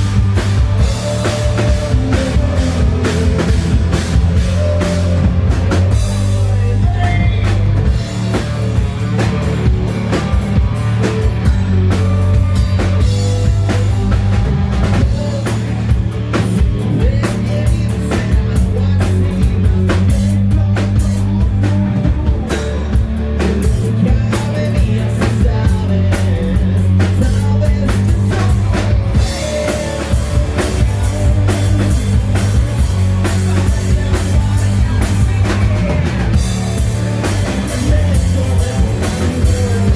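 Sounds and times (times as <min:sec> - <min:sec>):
hard rock band playing live: 0:00.0 - 0:39.9.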